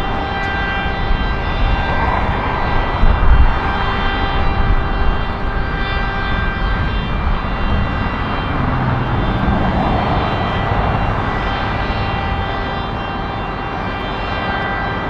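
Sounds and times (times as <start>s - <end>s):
high whining tones: 0.0s - 15.0s
jet engines roaring: 0.0s - 15.0s.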